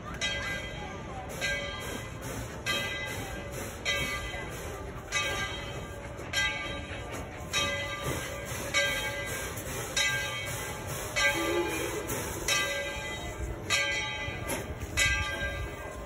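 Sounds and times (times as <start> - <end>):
locomotive bell ringing: 0.0 - 16.0.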